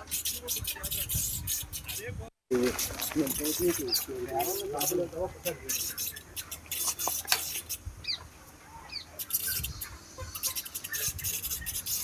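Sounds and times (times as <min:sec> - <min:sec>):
clicks and scratching: 0:00.0 - 0:07.8, 0:09.2 - 0:12.0.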